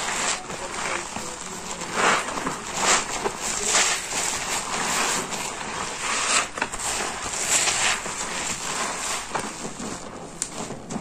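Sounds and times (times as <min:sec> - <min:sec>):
soapy sponge squishing: 0:00.0 - 0:11.0.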